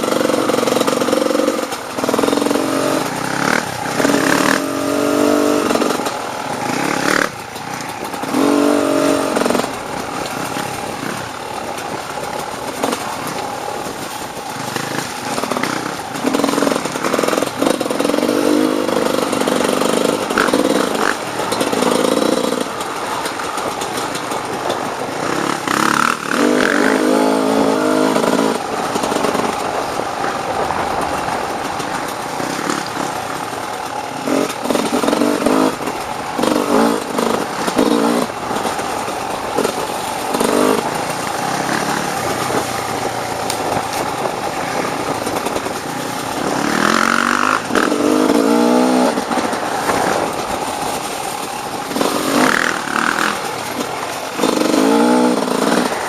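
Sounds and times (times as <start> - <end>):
dirt bike engine revving: 0.0 - 30.3, 31.7 - 56.0
steady rushing noise: 0.0 - 56.0.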